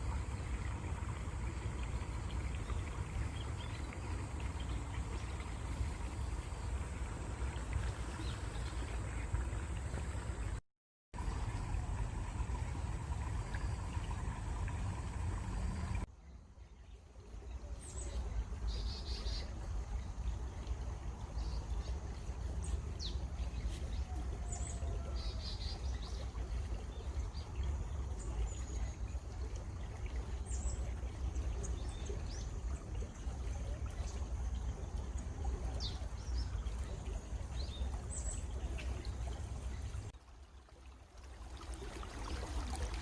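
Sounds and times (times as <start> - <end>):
stream flowing: 0.0 - 10.6, 11.2 - 43.0.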